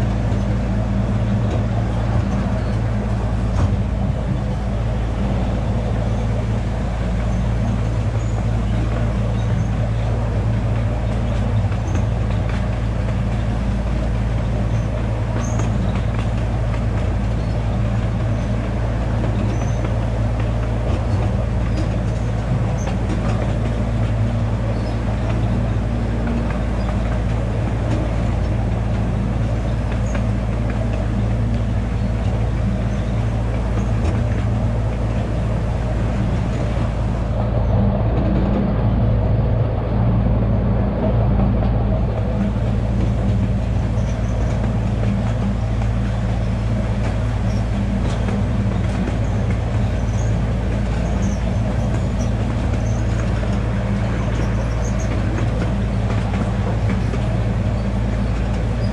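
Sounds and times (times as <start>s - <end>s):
train cars rattling: 0.0s - 58.9s
train engine low drone: 0.0s - 58.9s.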